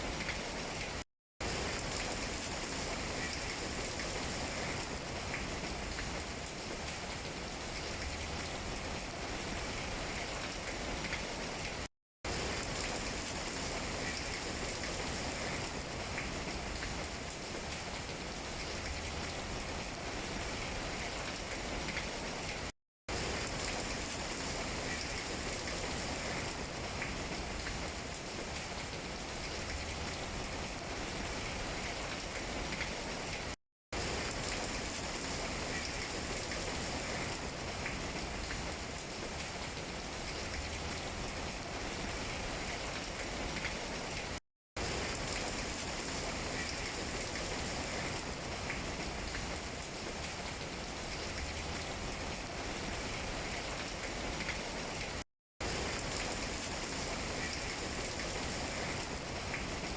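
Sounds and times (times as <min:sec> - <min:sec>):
rain on tree leaves: 0:00.0 - 0:59.9.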